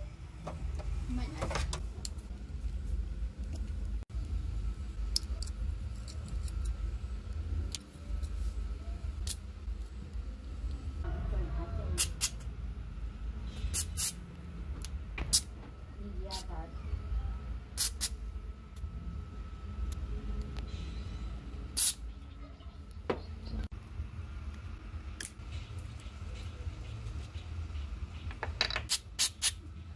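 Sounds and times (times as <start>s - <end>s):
steady low rumble: 0.0s - 28.4s.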